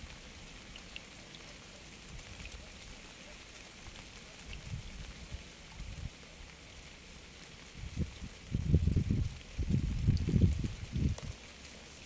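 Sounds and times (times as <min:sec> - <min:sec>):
raindrops ticking: 0:00.0 - 0:12.0
steady rain: 0:00.0 - 0:12.0.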